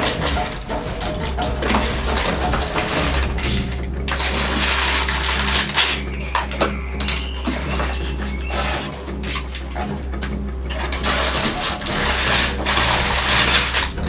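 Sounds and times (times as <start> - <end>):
plastic bags crinkling: 0.0 - 8.6, 10.9 - 14.0
steady low hum: 0.0 - 14.0.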